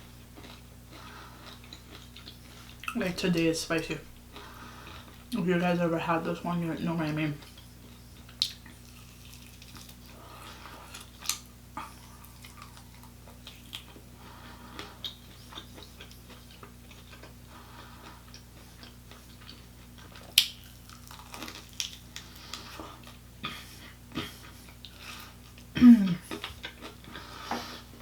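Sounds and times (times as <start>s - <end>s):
low electrical hum: 0.0s - 28.0s
chewing and biting: 0.2s - 3.0s, 7.4s - 27.3s.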